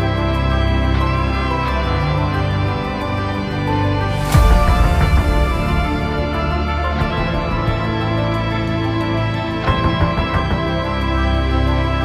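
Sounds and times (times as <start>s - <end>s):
instrumental music with deep bass: 0.0s - 12.0s.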